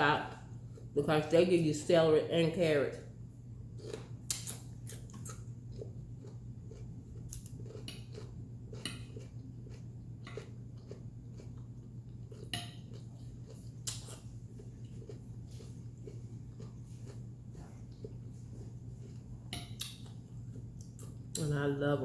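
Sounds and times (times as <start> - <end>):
steady low hum: 0.0 - 22.0
quiet chewing: 0.3 - 1.0, 3.7 - 21.5.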